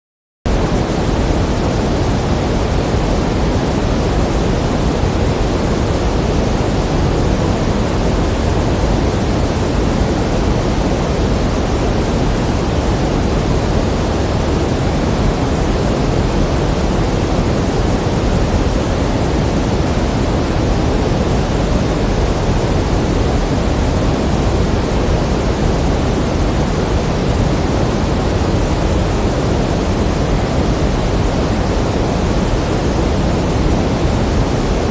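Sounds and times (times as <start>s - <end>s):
pink noise hiss: 0.5s - 34.9s.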